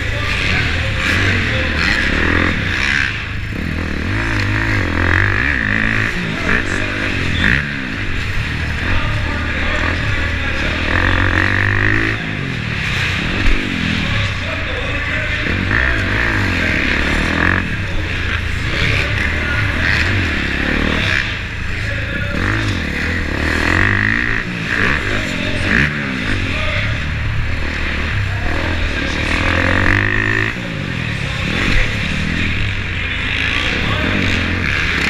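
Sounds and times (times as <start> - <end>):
constant low rumble: 0.0 - 35.0
dirt bike engine revving: 0.0 - 35.0.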